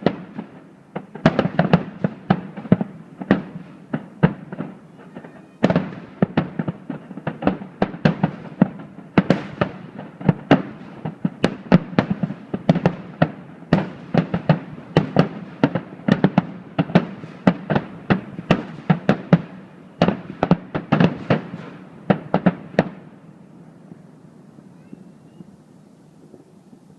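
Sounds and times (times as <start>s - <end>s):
fireworks bursting: 0.0s - 26.9s.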